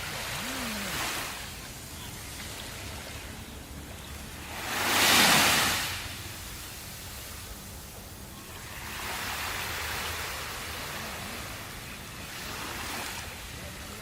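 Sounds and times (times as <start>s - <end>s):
sea waves breaking: 0.0s - 14.0s.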